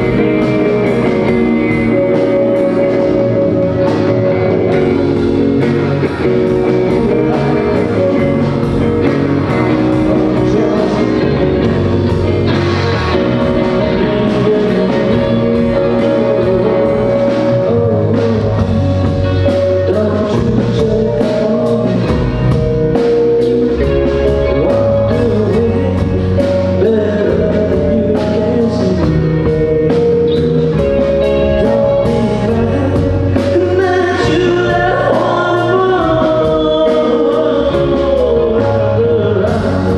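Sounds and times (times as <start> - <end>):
drum kit beat: 0.0 - 39.9
live rock band playing: 0.0 - 39.9
person singing: 0.0 - 39.9.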